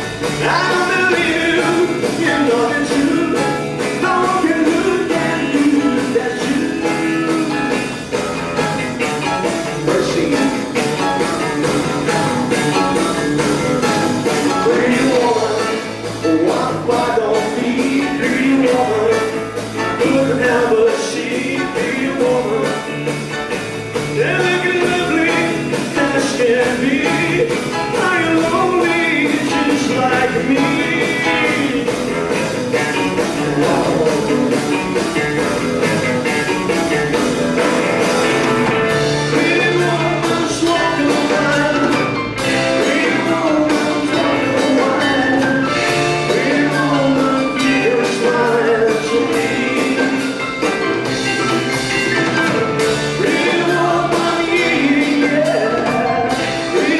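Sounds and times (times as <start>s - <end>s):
rock band playing live: 0.0s - 56.9s
steady drum beat: 0.0s - 56.9s.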